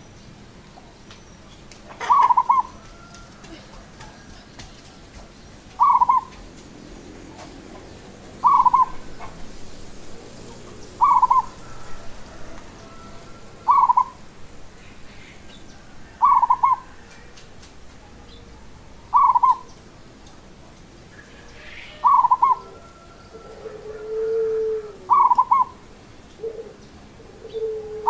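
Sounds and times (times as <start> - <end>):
dove cooing: 1.9 - 14.4, 15.9 - 17.4, 18.0 - 19.8, 21.3 - 28.0.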